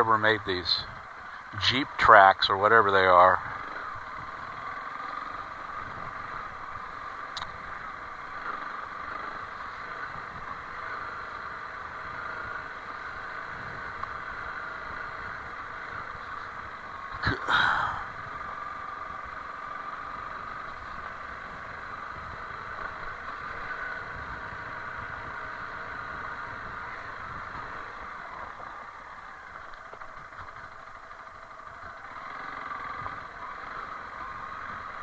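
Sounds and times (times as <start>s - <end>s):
motorcycle engine on dirt track: 0.0s - 35.0s.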